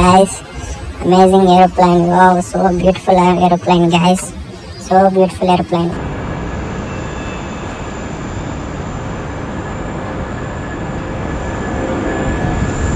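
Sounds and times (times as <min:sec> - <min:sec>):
faint steady tones: 0:00.0 - 0:12.6.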